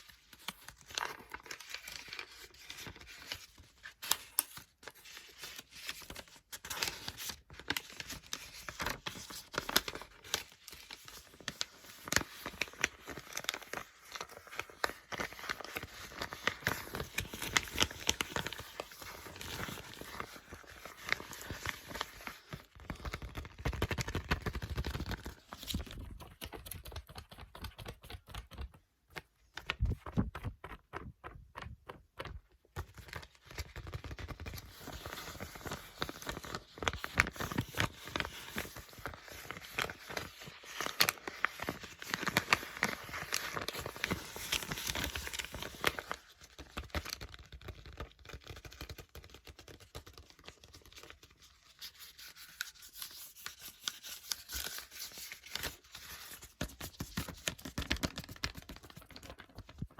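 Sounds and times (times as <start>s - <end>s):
book pages flipping: 0.0s - 59.9s.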